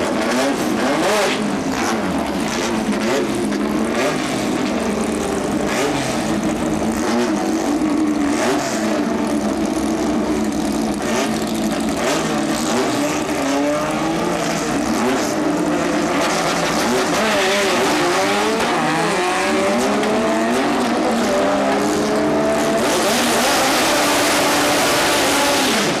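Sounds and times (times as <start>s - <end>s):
engine at full throttle: 0.0s - 26.0s.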